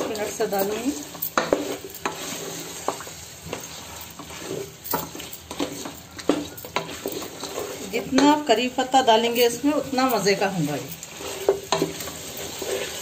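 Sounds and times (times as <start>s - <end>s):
chicken sizzling in oil: 0.0s - 13.0s
spatula scraping a pot: 0.0s - 13.0s.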